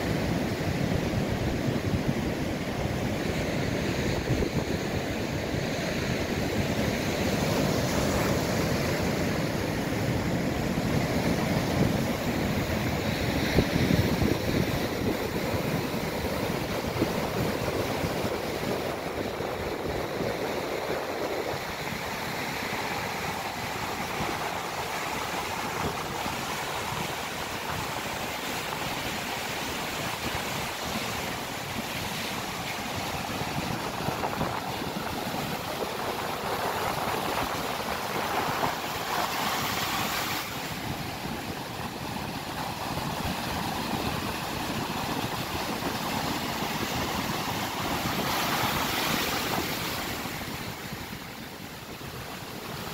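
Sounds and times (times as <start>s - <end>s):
surf breaking on rocks: 2.6s - 52.9s.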